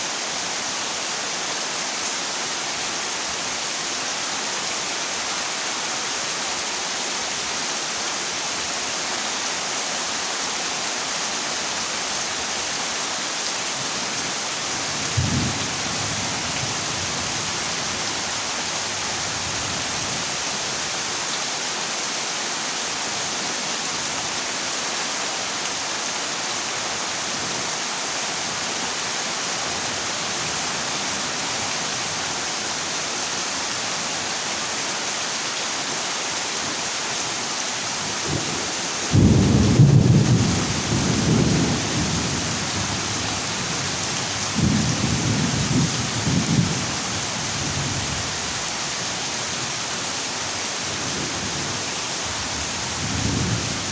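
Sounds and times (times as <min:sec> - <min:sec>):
heavy rain on a metal roof: 0:00.0 - 0:53.9.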